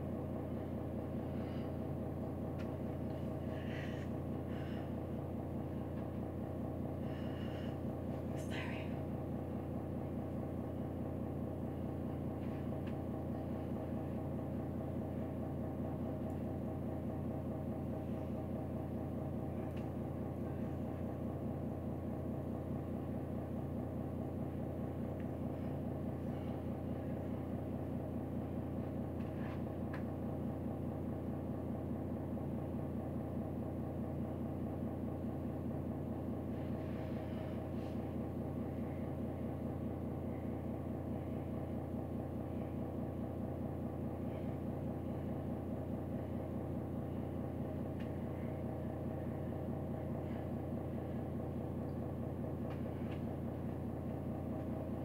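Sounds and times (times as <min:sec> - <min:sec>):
low motor hum with flutter: 0:00.0 - 0:55.0.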